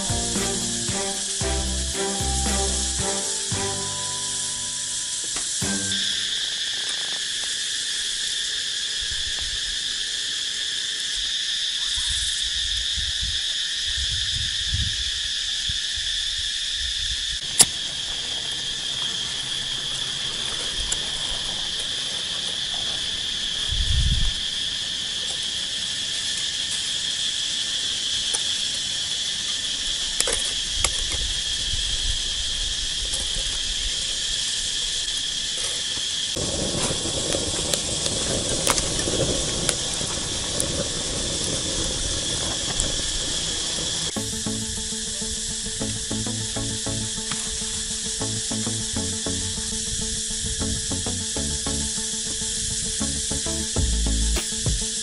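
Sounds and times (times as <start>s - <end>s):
cicadas calling: 0.0s - 55.0s.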